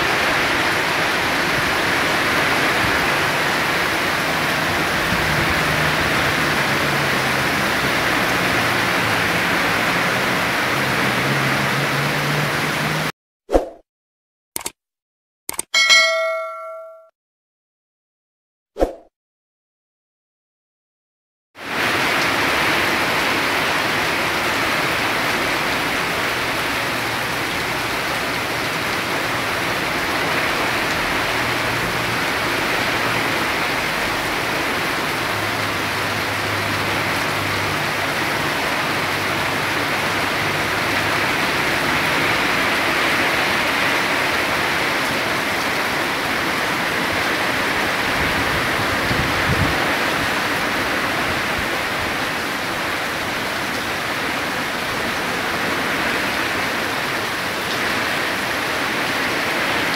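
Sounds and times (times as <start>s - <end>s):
heavy rain pouring: 0.0s - 13.1s, 21.6s - 59.9s.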